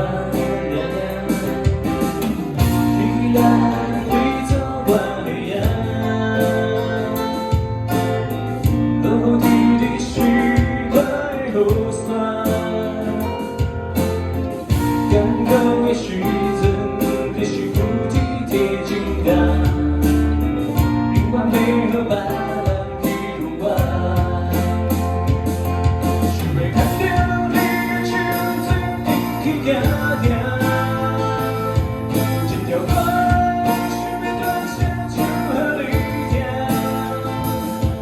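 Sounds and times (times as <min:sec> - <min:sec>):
person singing: 0:00.0 - 0:13.9, 0:14.9 - 0:38.0
drum kit: 0:00.0 - 0:38.0
electric bass: 0:00.0 - 0:38.0
guitars: 0:00.0 - 0:38.0.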